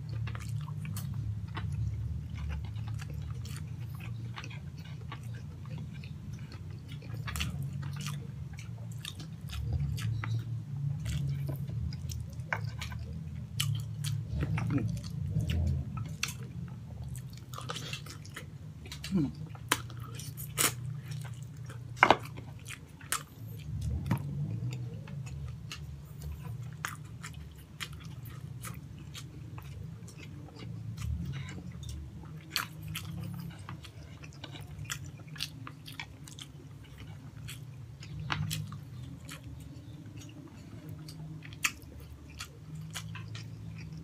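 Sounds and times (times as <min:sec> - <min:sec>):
person chewing with wet smacks: 0:00.0 - 0:44.0.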